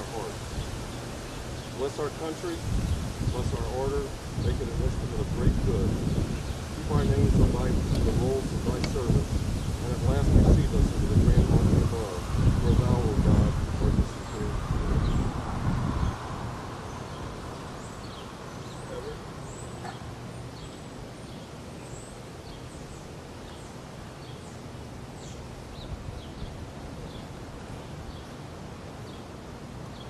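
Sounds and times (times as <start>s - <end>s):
birds chirping: 0.0s - 30.0s
low outdoor rumble: 0.0s - 30.0s.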